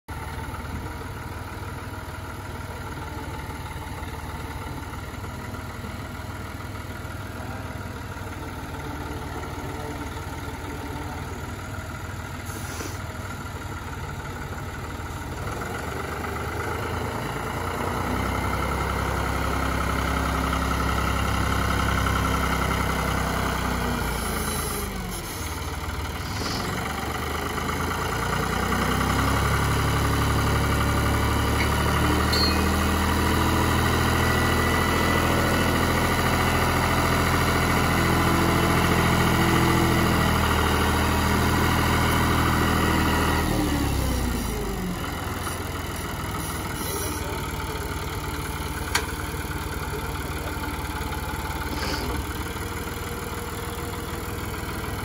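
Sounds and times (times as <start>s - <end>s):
tractor diesel engine running: 0.1s - 55.0s.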